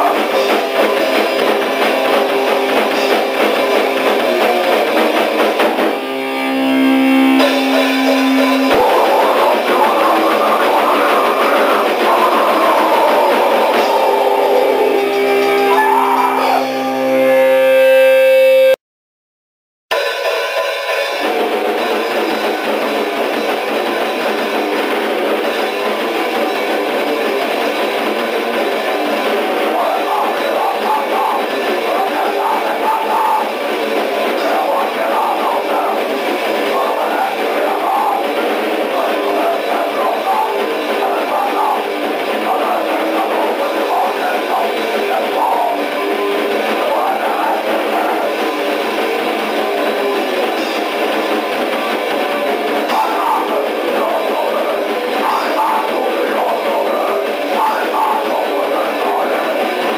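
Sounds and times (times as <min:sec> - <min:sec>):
drum kit playing: 0:00.0 - 0:17.4, 0:19.9 - 0:59.9
distorted electric guitar: 0:00.0 - 0:18.8, 0:19.9 - 0:59.9.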